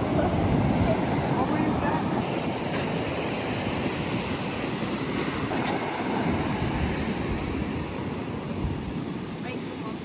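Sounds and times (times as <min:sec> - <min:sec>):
ocean surf: 0:00.0 - 0:10.0
wind on microphone: 0:00.0 - 0:10.0.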